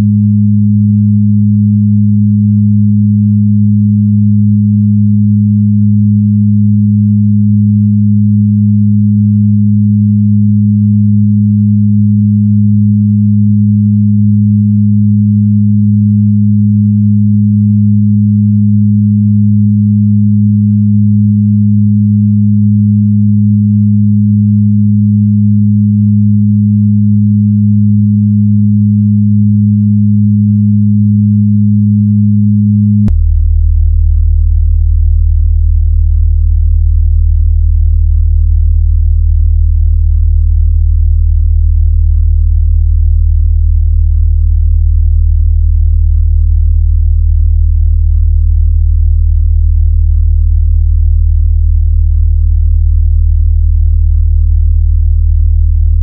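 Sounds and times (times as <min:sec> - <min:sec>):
two pure tones humming: 0:00.0 - 0:46.5.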